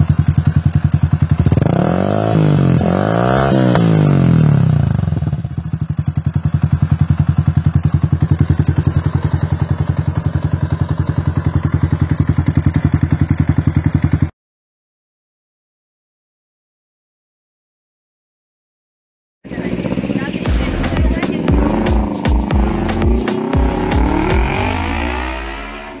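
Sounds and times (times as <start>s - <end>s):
motorcycle engine revving and idling: 0.0s - 14.3s, 19.5s - 26.0s.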